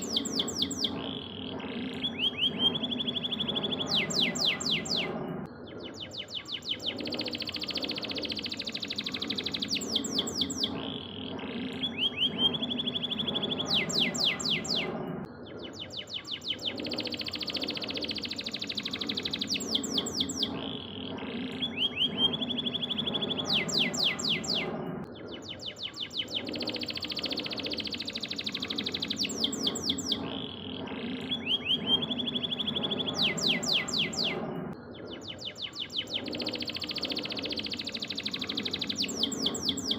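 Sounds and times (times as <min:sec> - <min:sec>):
canary singing trills: 0:00.0 - 0:39.9
steady low background noise: 0:00.0 - 0:39.9.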